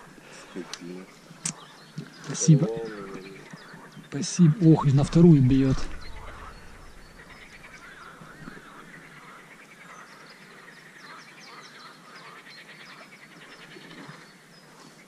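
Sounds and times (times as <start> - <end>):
chorus of animal calls: 0.0 - 14.4.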